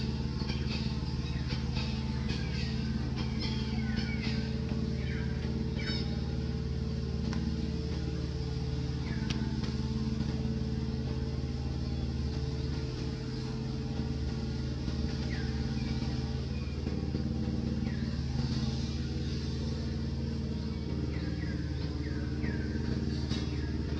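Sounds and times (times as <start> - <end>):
engine idling: 0.0 - 23.9.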